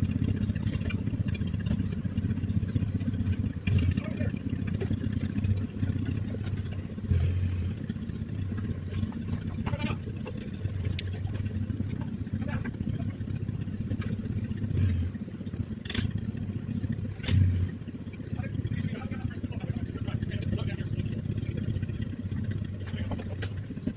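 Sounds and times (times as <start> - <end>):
two-cylinder tractor engine running: 0.0 - 23.9.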